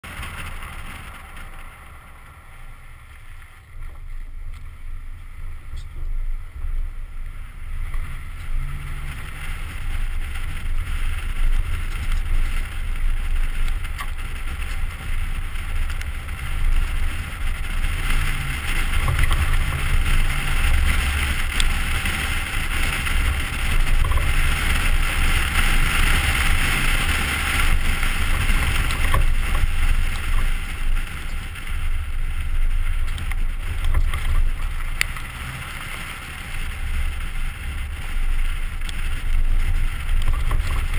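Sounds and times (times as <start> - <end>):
rushing noise: 0.0 - 40.9
truck engine rumble: 0.0 - 40.9.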